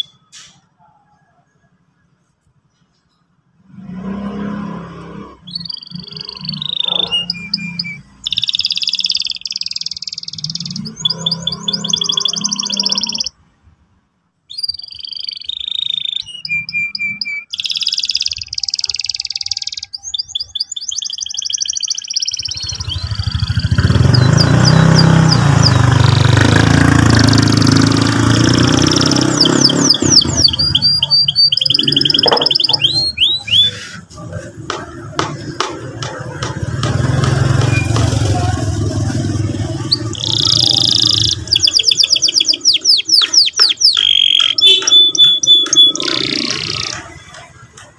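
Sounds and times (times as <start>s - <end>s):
canary singing: 0.0s - 0.3s, 4.4s - 13.4s, 14.5s - 47.8s.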